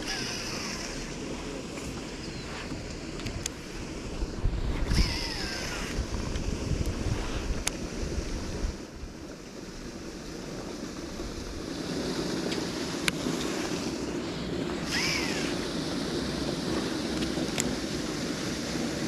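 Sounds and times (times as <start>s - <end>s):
rushing water: 0.0s - 19.0s
wind buffeting microphone: 0.0s - 19.0s.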